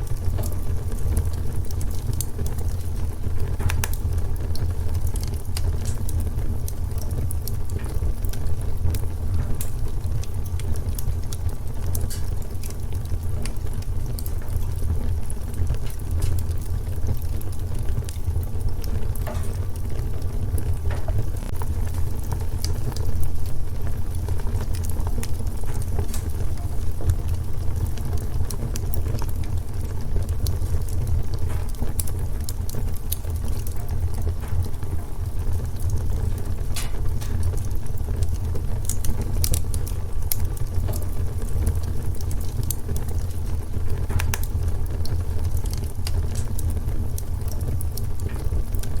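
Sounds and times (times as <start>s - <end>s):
fire crackling and popping: 0.0s - 49.0s
fire flames rumbling: 0.0s - 49.0s.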